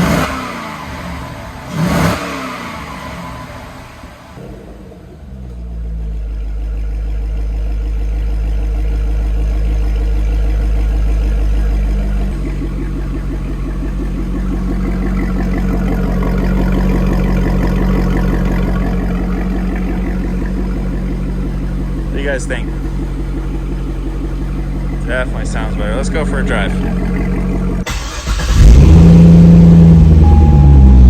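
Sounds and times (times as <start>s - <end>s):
car engine starting and idling: 0.0s - 31.0s.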